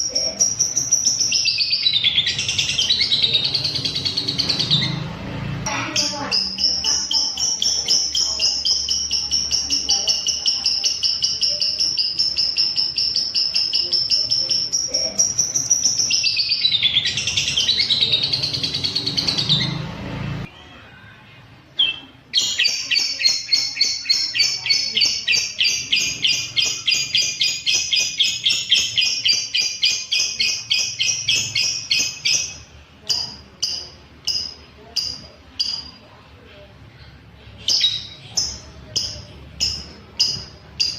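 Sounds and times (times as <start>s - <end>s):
bird chattering trill: 0.0s - 5.1s, 5.7s - 19.8s, 21.8s - 36.1s, 37.6s - 40.9s.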